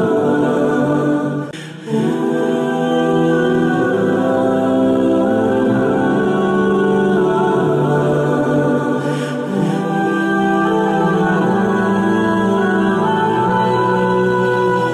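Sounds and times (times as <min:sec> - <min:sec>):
slow choir-like chords: 0:00.0 - 0:14.9.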